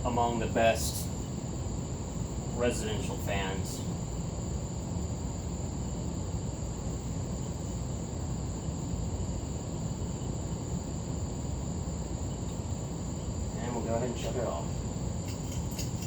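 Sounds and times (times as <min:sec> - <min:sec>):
ceiling fan running: 0:00.0 - 0:16.0
high-pitched whine: 0:00.0 - 0:16.0.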